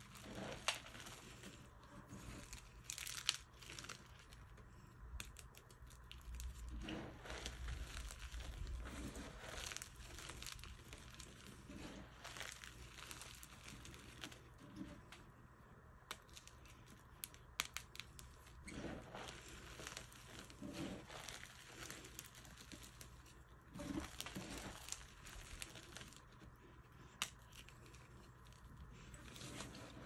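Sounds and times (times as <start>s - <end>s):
gritty powdery rubbing: 0.0s - 4.4s, 5.3s - 15.1s, 16.4s - 30.0s
chalk crunching: 0.0s - 15.4s, 16.1s - 30.0s.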